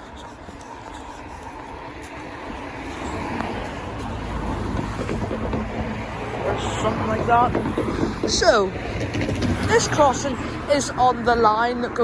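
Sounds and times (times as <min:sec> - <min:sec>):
road vehicle approaching: 0:00.0 - 0:12.0.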